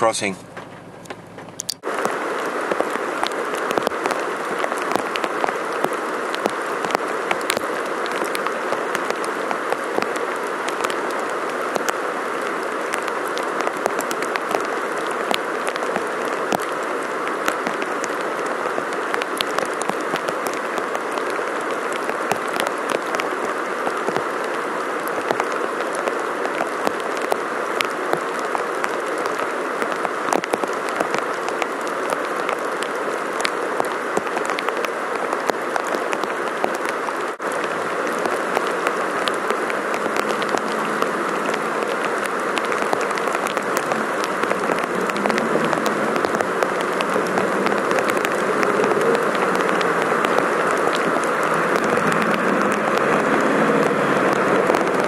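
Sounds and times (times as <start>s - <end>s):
creek rushing over rapids: 0.0s - 55.0s
rain falling: 0.0s - 55.0s.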